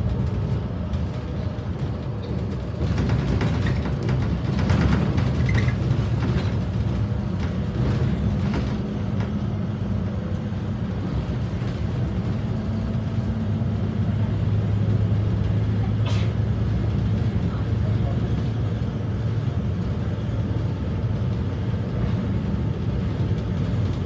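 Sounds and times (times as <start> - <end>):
bus diesel engine droning: 0.0 - 24.0.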